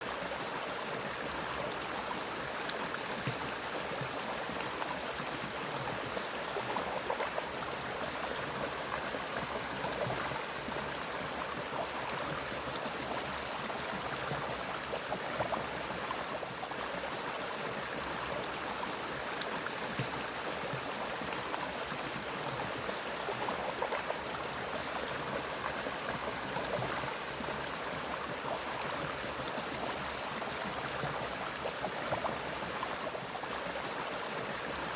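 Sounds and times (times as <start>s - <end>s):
stream flowing: 0.0s - 34.9s.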